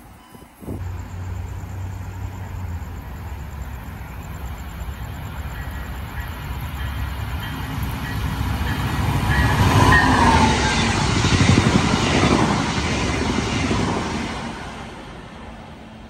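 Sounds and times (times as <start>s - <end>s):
passenger train passing: 0.0s - 16.0s.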